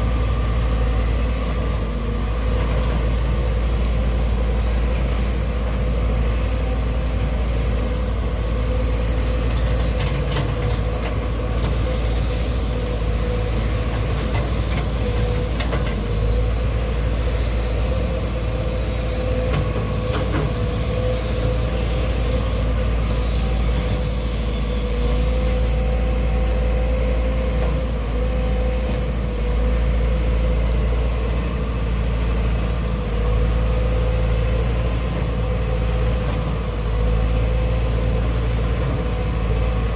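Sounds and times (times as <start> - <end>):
heavy machinery engine drone: 0.0 - 39.9.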